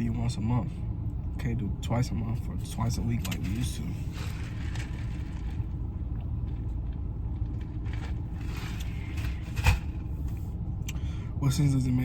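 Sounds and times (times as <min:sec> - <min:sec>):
car engine rumble from inside: 0:00.0 - 0:12.0.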